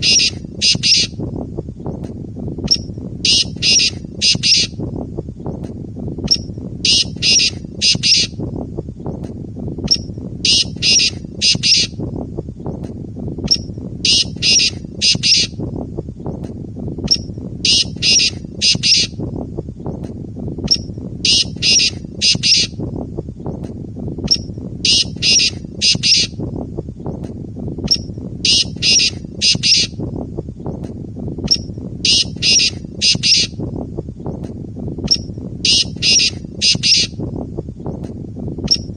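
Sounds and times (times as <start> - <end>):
steady low rumble: 0.0 - 38.9.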